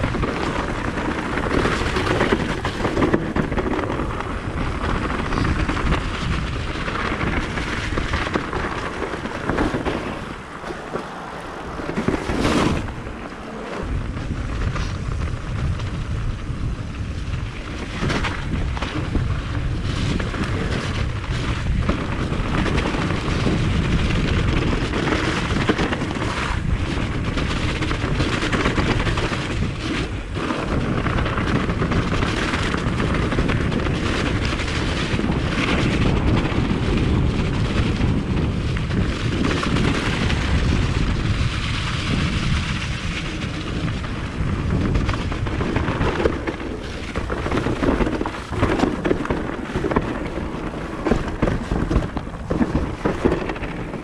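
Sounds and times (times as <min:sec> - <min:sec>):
bike rumbling and rattling: 0:00.0 - 0:54.0
wind buffeting the microphone: 0:00.0 - 0:54.0.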